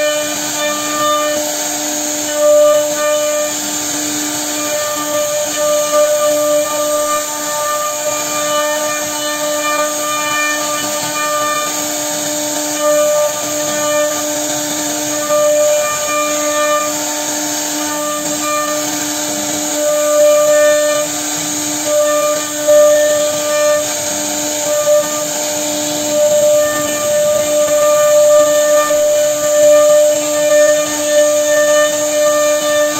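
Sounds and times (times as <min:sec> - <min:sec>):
bit chipping wood: 0:00.0 - 0:32.9
router spindle whining: 0:00.0 - 0:32.9.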